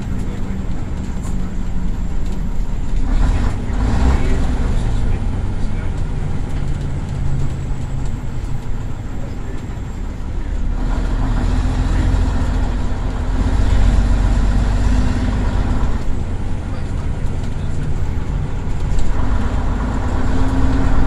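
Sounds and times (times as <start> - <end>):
bus diesel engine: 0.0 - 21.0.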